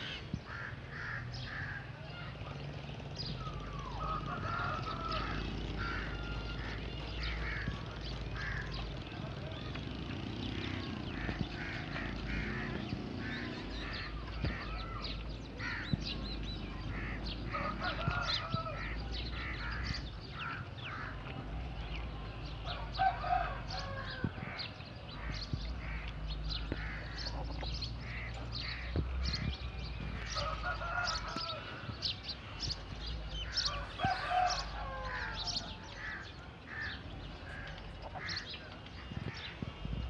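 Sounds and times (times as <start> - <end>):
birds chirping and calling: 0.0 - 40.0.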